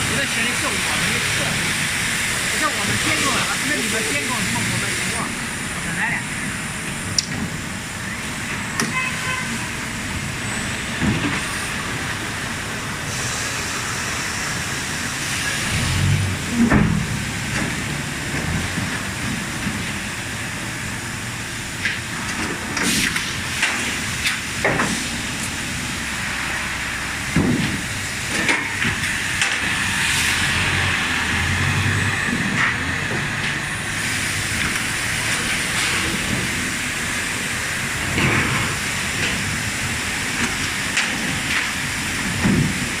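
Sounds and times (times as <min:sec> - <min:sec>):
machinery hissing: 0:00.0 - 0:43.0.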